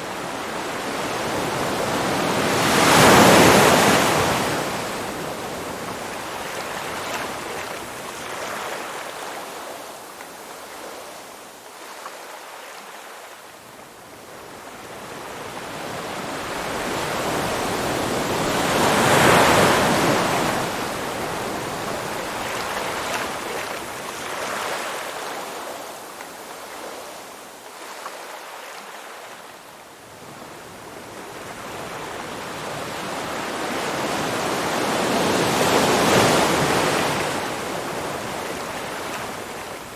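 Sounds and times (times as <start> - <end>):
ocean surf waves: 0.0 - 9.9, 14.4 - 29.4, 30.1 - 39.9.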